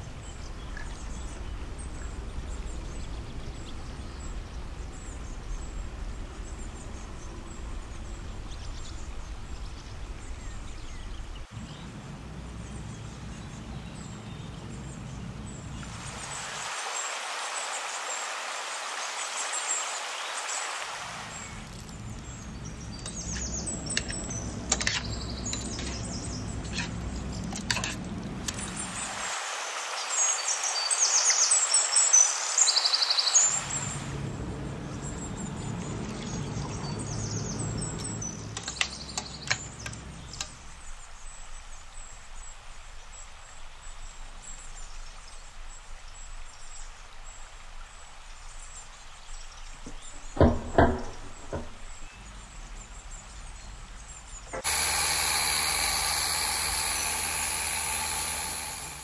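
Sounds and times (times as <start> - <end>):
small birds chirping: 0.0 - 34.1, 34.7 - 59.0
steady hiss: 0.0 - 35.8, 36.8 - 59.0.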